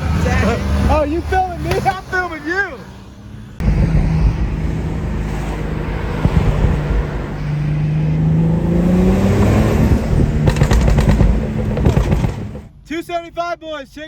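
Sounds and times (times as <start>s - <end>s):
car engine while driving: 0.0s - 12.8s
road noise: 0.0s - 14.0s.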